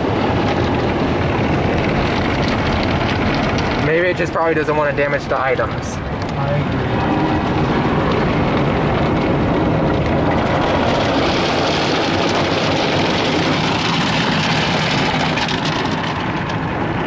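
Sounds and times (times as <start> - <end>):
car wash brushes and water spray: 0.0 - 17.0.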